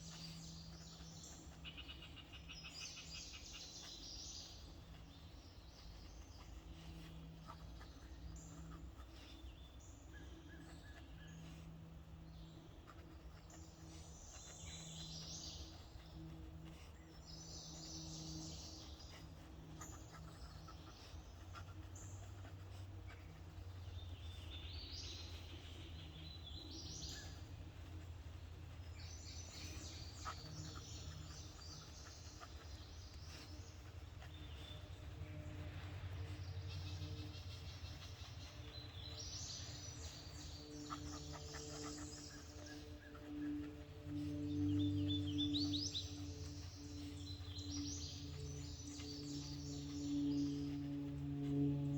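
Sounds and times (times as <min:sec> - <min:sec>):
birds singing and chirping: 0:00.0 - 0:51.9
faint outdoor background noise: 0:00.0 - 0:51.9
steady low hum: 0:00.0 - 0:51.9.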